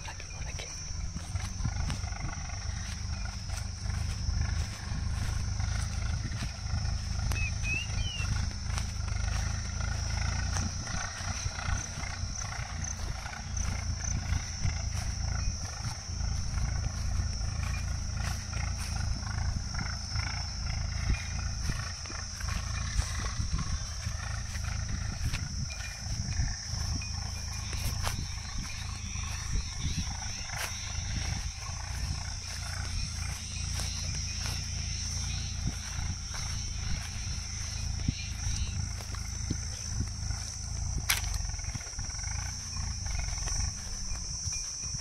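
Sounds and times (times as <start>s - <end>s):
faint bird chirps: 0.0s - 40.5s
high-pitched insect buzz: 0.0s - 45.0s
wind buffeting microphone: 0.0s - 45.0s.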